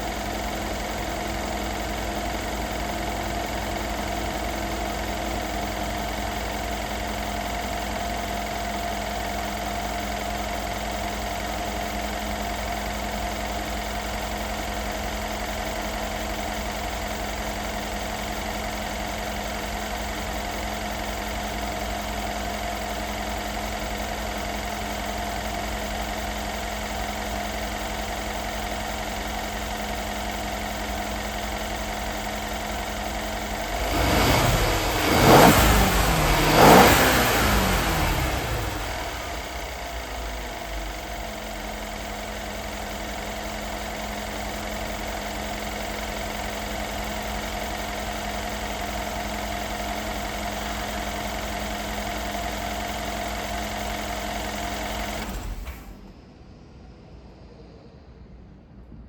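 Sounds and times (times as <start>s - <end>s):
car engine idling and revving: 0.0s - 58.1s.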